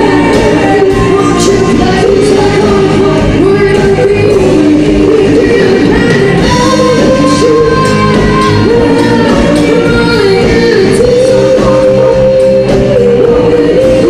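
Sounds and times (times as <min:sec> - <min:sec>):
live band playing: 0:00.0 - 0:14.0
singers holding sliding notes: 0:00.0 - 0:14.0.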